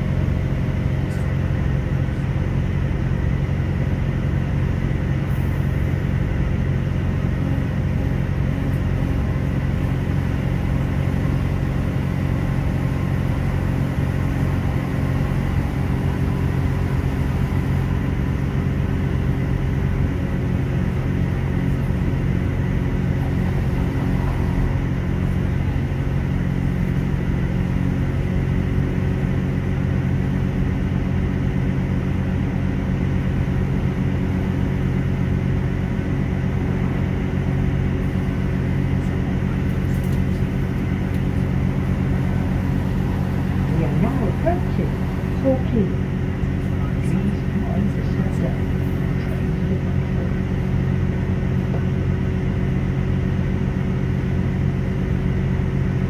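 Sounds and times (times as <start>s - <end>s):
train diesel engine rumbling: 0.0s - 56.0s.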